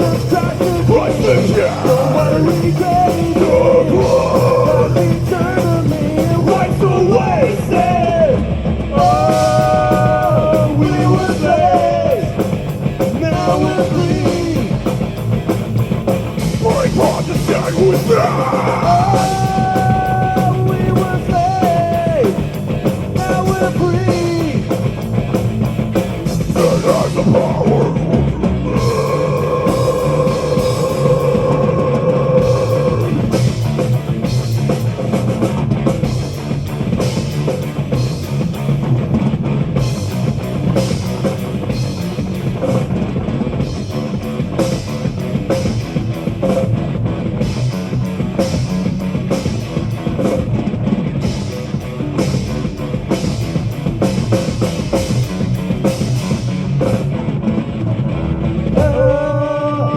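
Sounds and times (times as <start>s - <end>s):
drum and cymbal hits: 0.0s - 58.0s
heavy metal band playing: 0.0s - 59.9s.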